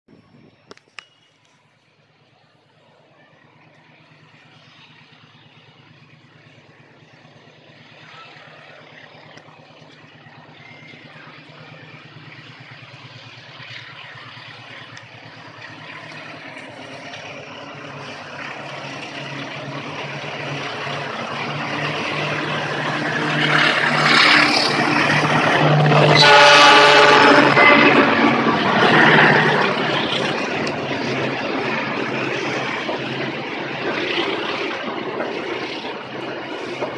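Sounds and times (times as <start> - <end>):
diesel locomotive engine droning: 0.1 - 36.9.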